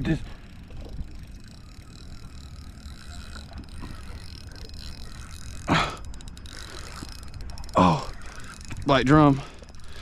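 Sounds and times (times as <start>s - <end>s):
fishing reel whirring: 0.0s - 10.0s.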